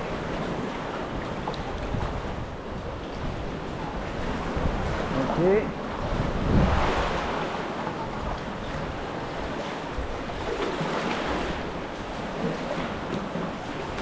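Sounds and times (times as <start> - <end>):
choppy sea water splashing: 0.0 - 14.0
wind gusting across microphone: 0.0 - 14.0.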